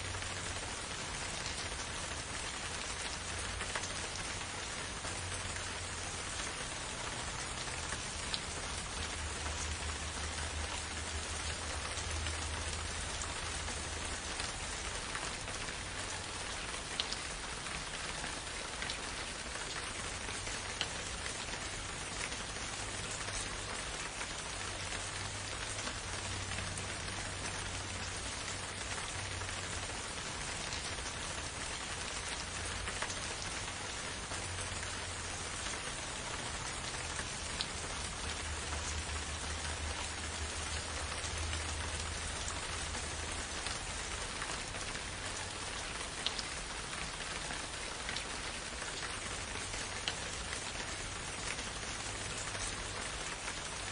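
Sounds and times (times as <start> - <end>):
continuous low rumble: 0.0 - 53.9
steady rain hiss: 0.0 - 53.9
raindrops ticking: 0.1 - 53.9.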